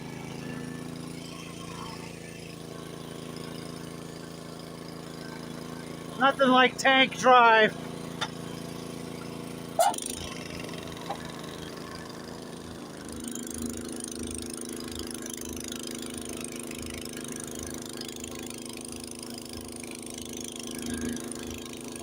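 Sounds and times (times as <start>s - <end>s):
snowblower engine running: 0.0s - 22.0s.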